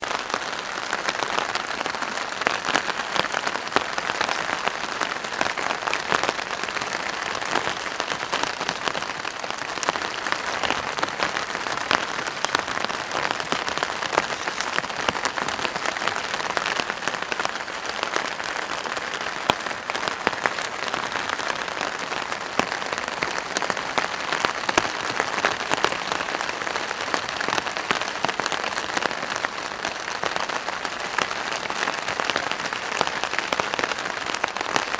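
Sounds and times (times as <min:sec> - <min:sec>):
rain on a plastic tarp: 0:00.0 - 0:34.9.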